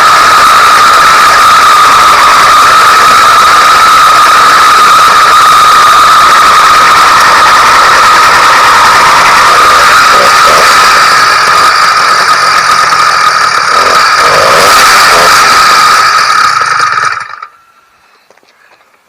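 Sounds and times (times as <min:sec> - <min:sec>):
two-stroke engine running: 0:00.0 - 0:17.6.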